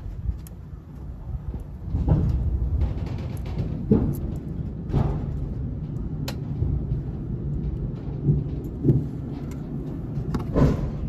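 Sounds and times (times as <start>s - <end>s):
loud low outdoor rumble: 0.0s - 11.0s
soft bumps: 0.0s - 11.0s.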